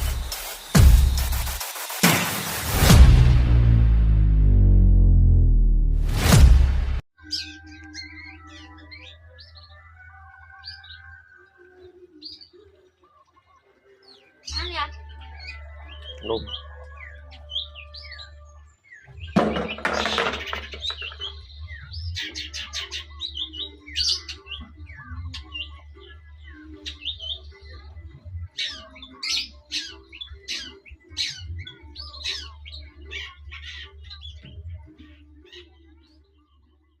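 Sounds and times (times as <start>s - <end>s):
bird singing chirps and trills: 7.2s - 37.0s.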